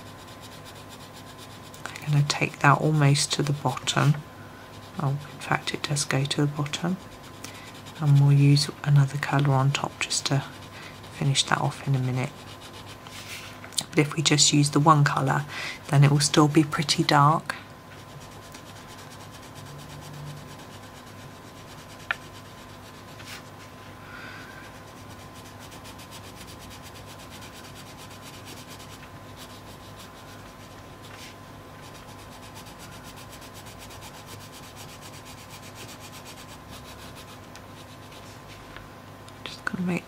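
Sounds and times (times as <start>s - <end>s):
coloured pencil rubbing on paper: 0.0s - 13.4s, 18.0s - 23.6s, 24.6s - 38.5s.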